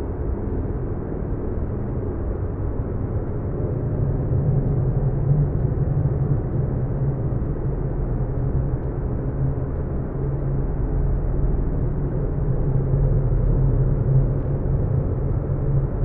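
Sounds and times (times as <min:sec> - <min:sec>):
low muffled rumbling drone: 0:00.0 - 0:16.0.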